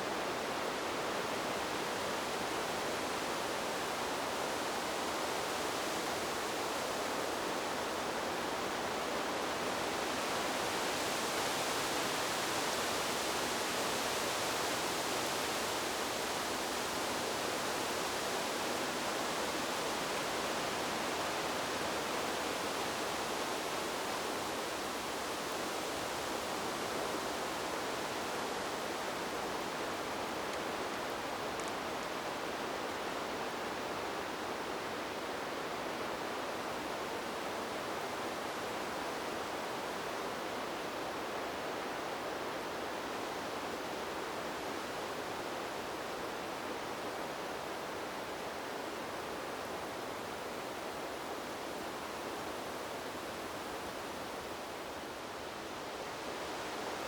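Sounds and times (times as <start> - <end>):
wind blowing through trees: 0.0 - 57.0.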